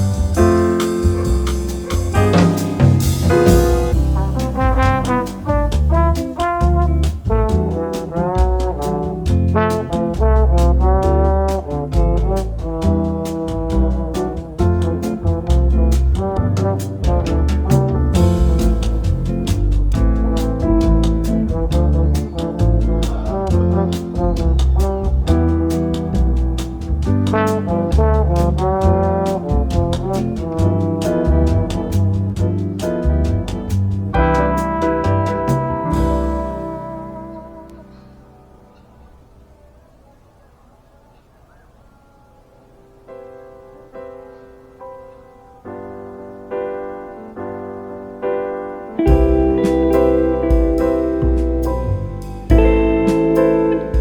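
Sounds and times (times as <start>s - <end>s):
brass music with deep bass: 0.0s - 39.0s, 49.0s - 54.0s.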